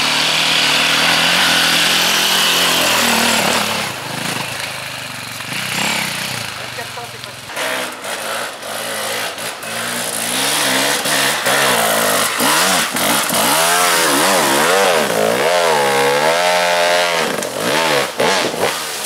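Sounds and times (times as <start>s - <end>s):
two-stroke motorcycle engine revving: 0.0s - 19.0s.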